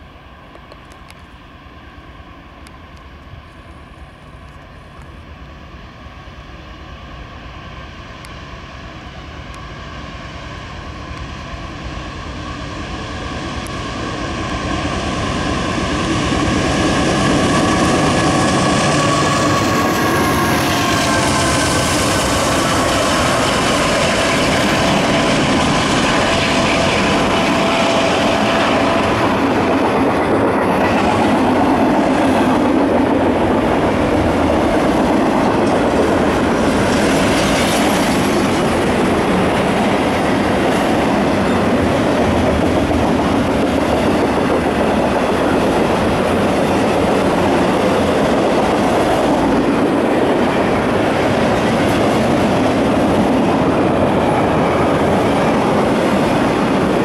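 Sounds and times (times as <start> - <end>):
diesel locomotive engines passing: 0.0 - 57.0.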